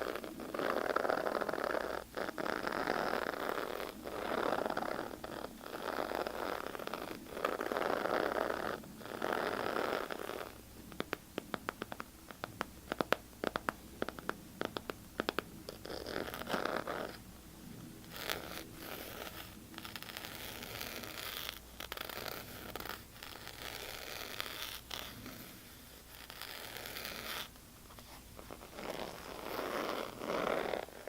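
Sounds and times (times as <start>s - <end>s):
scratching on a surface: 0.0s - 31.0s.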